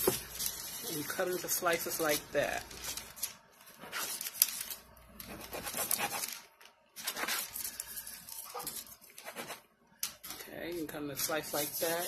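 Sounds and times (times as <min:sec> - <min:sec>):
knife scraping parchment paper: 0:00.3 - 0:06.4, 0:07.0 - 0:09.6, 0:11.1 - 0:12.0.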